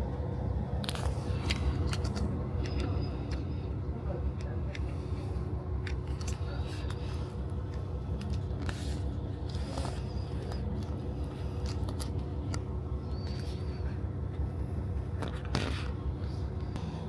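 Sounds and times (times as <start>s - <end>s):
diesel railcar engine humming: 0.0s - 17.0s.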